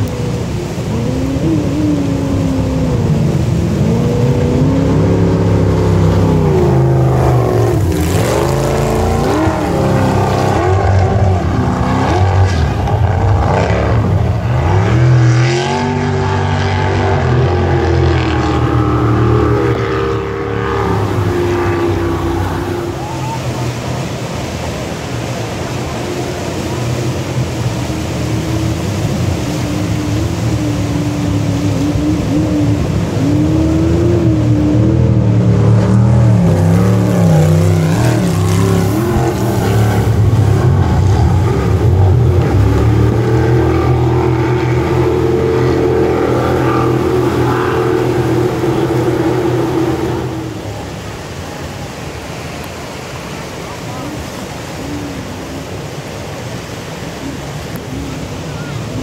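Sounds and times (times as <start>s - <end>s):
jet boat engine passing: 0.0s - 59.0s
whitewater rushing: 0.0s - 59.0s.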